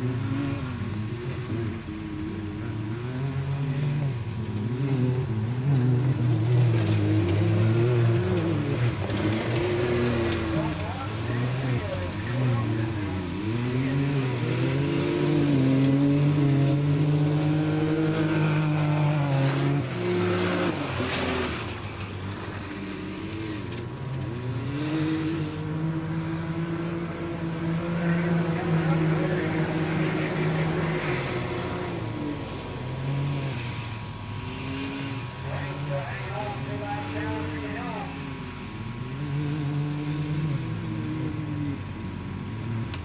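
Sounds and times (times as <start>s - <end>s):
utv engines revving: 0.0s - 43.0s.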